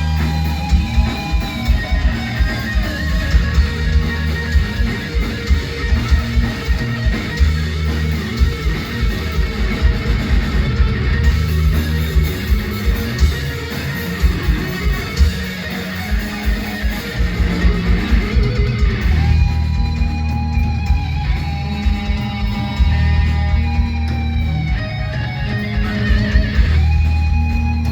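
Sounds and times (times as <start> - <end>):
live heavy metal music: 0.0 - 27.9
pounding drum beat: 0.0 - 27.9.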